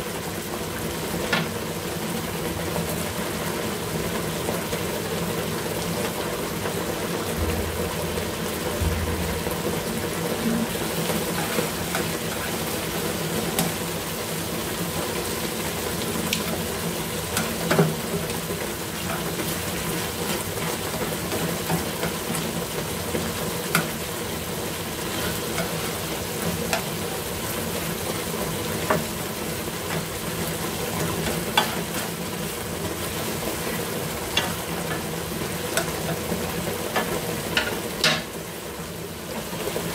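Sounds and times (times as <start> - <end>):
food bubbling and sizzling in pan: 0.0 - 39.9.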